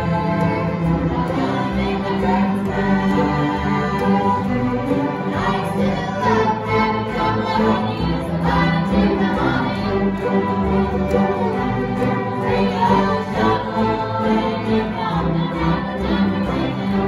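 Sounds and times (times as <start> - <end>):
acoustic string band playing: 0.0 - 17.0
string orchestra: 0.0 - 17.0
women singing together: 0.0 - 17.0.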